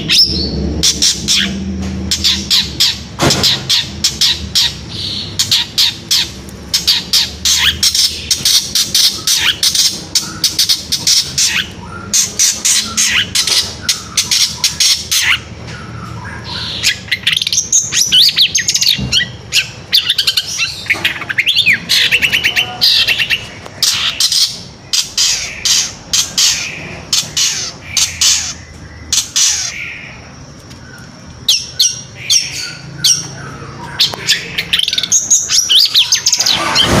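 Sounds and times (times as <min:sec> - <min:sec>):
shrike singing varied song: 0:00.0 - 0:37.0.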